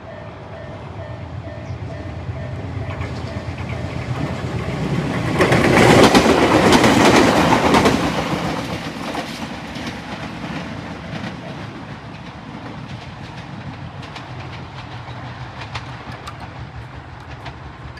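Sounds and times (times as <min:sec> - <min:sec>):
train wheels clacking over rail joints: 0:02.8 - 0:17.9.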